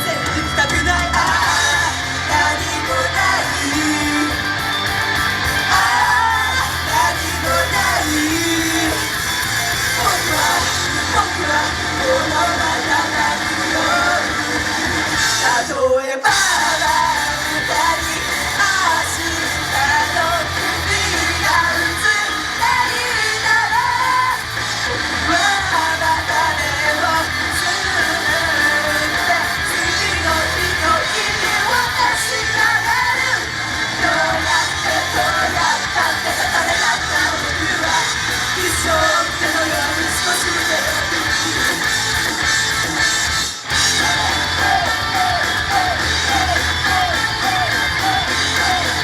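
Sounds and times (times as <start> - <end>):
person singing and yelling: 0.0 - 42.1, 43.7 - 49.0
live pop-rock song: 0.0 - 49.0.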